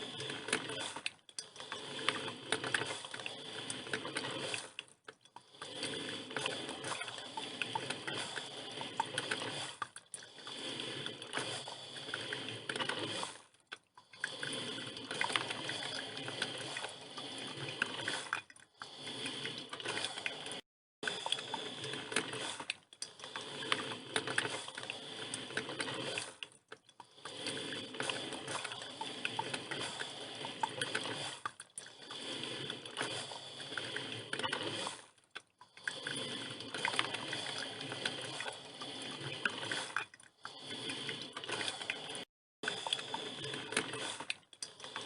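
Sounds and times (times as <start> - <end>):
coffee machine sputtering: 0.0 - 35.2, 35.8 - 45.0.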